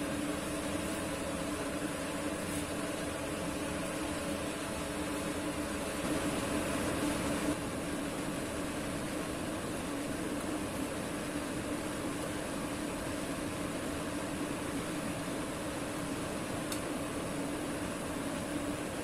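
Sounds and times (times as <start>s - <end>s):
low mechanical hum with hiss: 0.0s - 19.0s.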